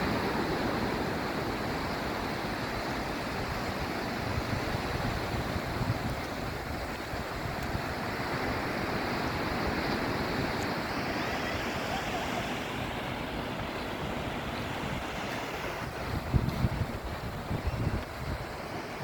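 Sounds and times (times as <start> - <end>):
waves washing onto beach: 0.0 - 19.0
wind gusting on microphone: 0.0 - 19.0.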